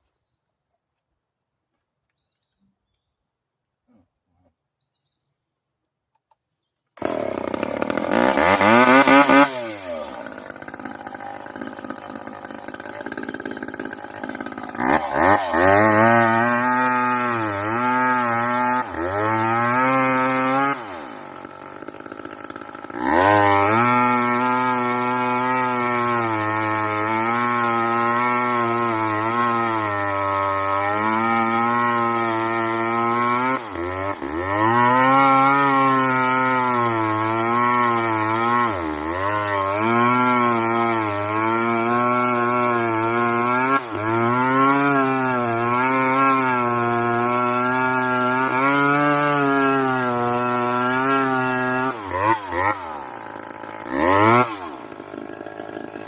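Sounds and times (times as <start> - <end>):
chainsaw cutting into tree: 7.0 - 56.0.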